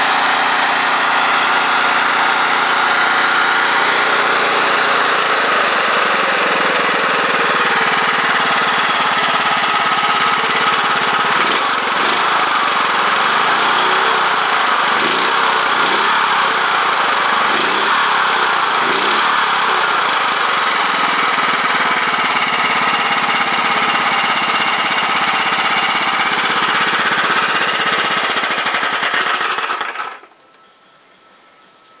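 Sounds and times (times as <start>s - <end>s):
small engine revving: 0.0s - 30.3s.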